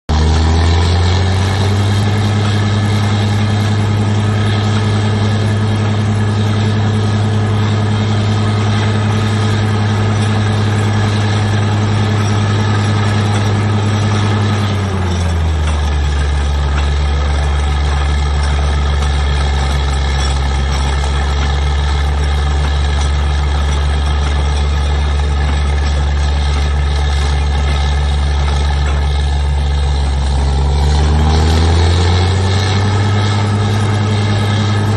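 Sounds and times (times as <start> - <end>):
heavy drilling rig engine: 0.1 - 34.9.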